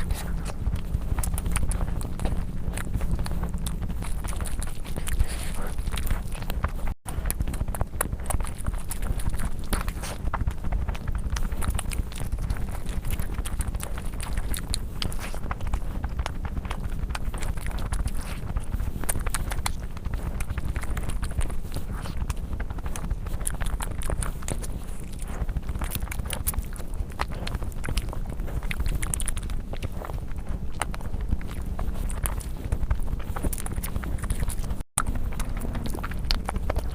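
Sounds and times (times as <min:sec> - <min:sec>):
chewing mouth sounds: 0:00.0 - 0:36.9
low rumble: 0:00.0 - 0:36.9.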